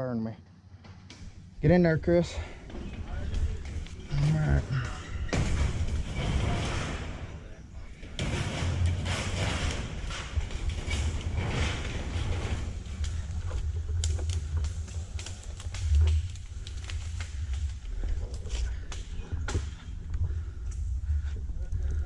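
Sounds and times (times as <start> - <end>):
rustling: 2.3 - 22.0.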